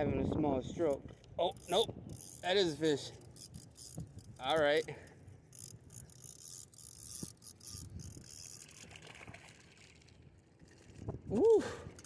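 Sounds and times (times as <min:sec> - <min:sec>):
fishing reel clicking and whirring: 0:00.8 - 0:12.0.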